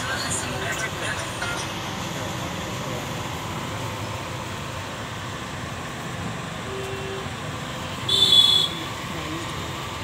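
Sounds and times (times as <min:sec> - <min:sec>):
roadside shop background hum: 0:00.0 - 0:10.0.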